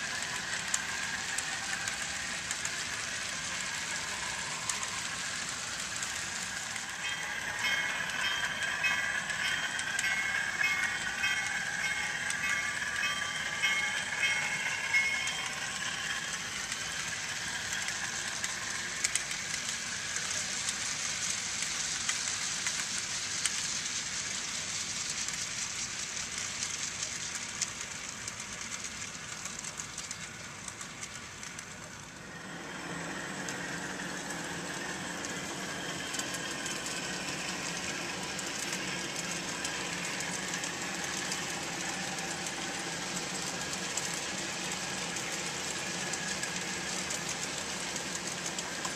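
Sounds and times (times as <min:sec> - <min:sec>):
model train wheels clattering: 0:00.0 - 0:48.9.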